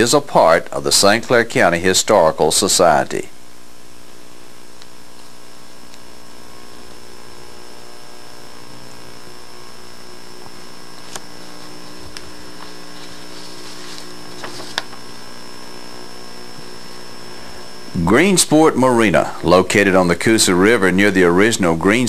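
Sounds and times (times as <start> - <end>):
electrical hum with high whine: 0.0 - 22.0.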